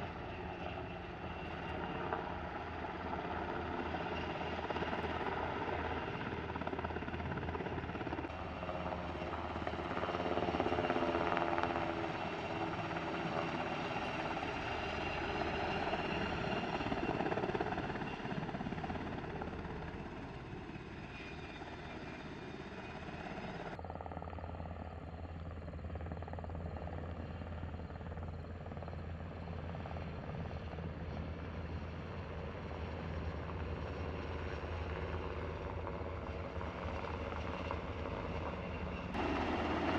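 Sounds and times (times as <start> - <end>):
helicopter rotor beat: 0.0 - 39.9
turbine engine whine: 0.0 - 39.9.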